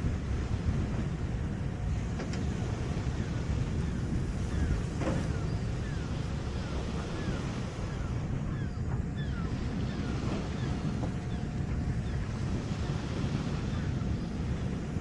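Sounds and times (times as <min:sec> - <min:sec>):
small waves breaking on shore: 0:00.0 - 0:15.0
wind buffeting microphone: 0:00.0 - 0:15.0.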